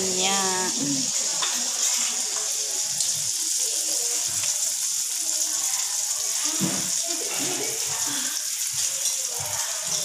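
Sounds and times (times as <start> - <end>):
batter sizzling in hot oil: 0.0 - 10.0.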